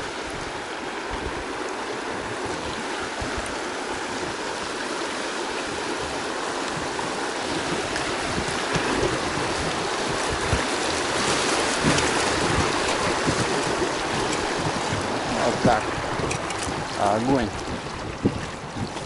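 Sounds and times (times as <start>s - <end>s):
river water rushing over rocks: 0.0s - 19.0s.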